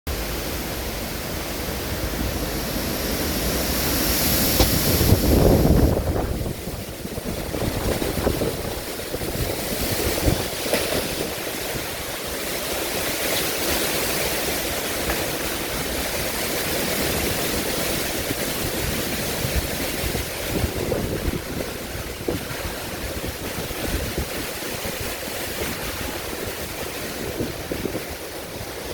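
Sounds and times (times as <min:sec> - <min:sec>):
gusting wind buffeting microphone: 0:00.1 - 0:28.9.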